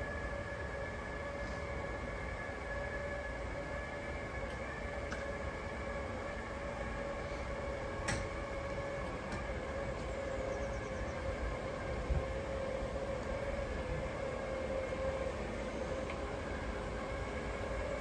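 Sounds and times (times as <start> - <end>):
electric motors whining: 0.0 - 18.0
low rumble of rolling sections: 0.0 - 18.0.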